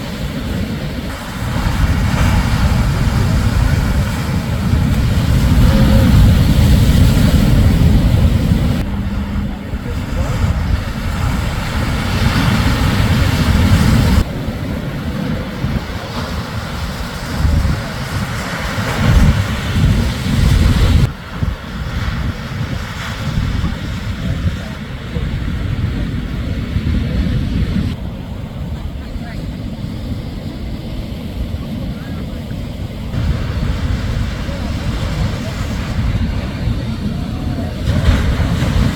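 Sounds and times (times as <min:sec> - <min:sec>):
surf crashing on beach: 0:00.0 - 0:38.9
wind buffeting microphone: 0:00.0 - 0:38.9.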